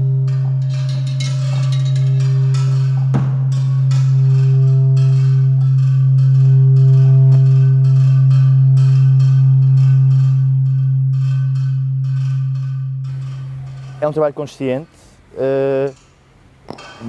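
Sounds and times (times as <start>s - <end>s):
low electronic drone: 0.0s - 16.6s.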